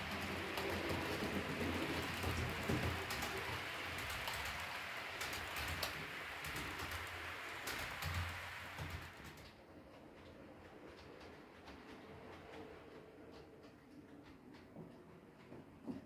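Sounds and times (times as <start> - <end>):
wheels clicking: 0.0 - 15.6
model train rolling on track: 0.0 - 15.7.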